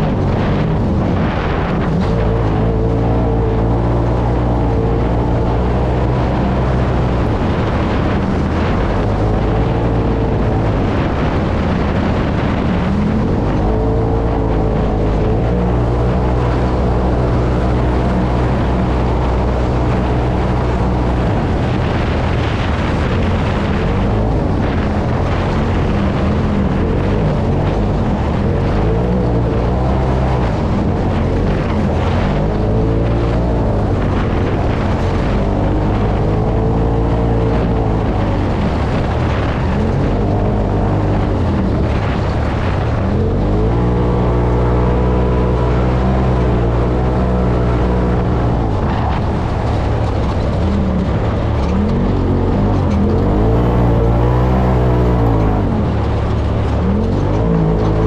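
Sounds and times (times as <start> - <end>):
off-road vehicle engine revving: 0.0 - 58.0
tyres rumbling on dirt: 0.0 - 58.0.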